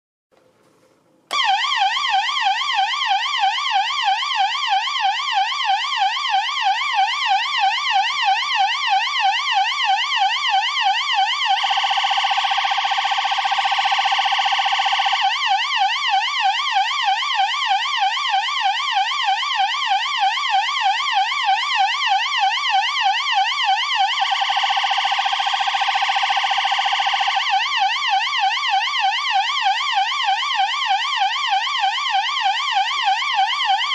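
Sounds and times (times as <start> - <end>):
stylophone siren wail: 1.3 - 33.9.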